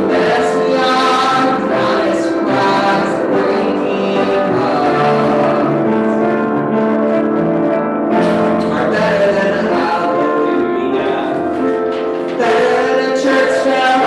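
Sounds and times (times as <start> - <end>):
voices singing worship song: 0.0 - 6.8, 8.1 - 14.0
instrumental accompaniment: 0.0 - 14.0.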